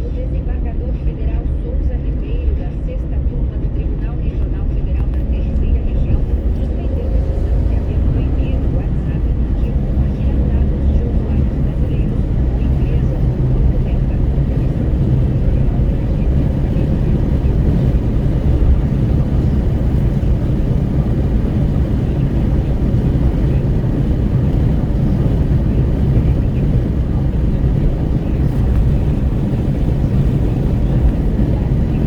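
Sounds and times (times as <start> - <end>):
road and engine noise: 0.0 - 32.0
wind buffeting through car window: 2.0 - 32.0.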